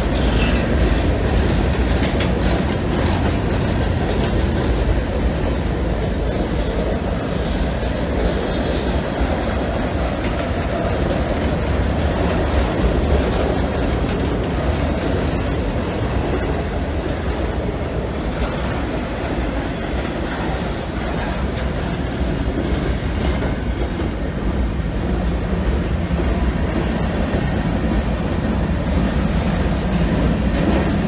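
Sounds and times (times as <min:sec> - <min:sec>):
freight train rolling past: 0:00.0 - 0:31.0.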